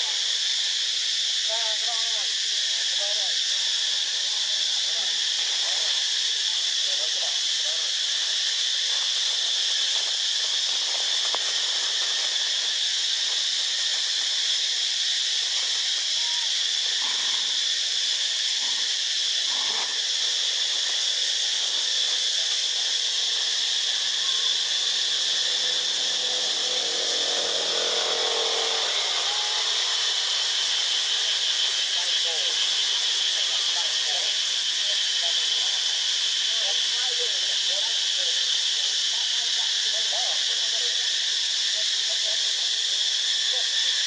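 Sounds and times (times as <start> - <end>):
high-pitched insect drone: 0.0 - 44.0.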